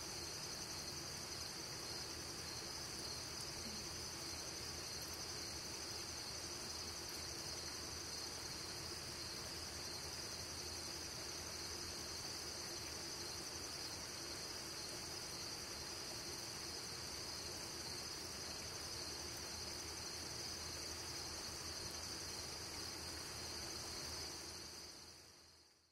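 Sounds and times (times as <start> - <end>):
crickets trilling: 0.0 - 25.7.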